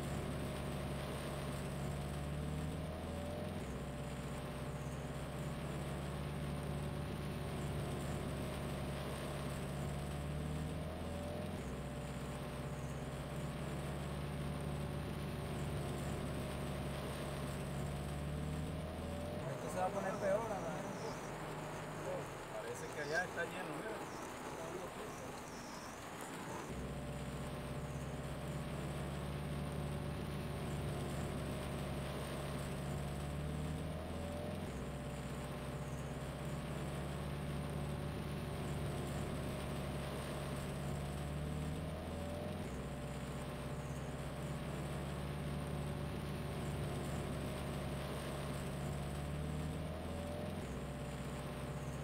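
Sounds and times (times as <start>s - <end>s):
constant hiss: 0.0s - 52.0s
vehicle engine idling: 0.0s - 52.0s.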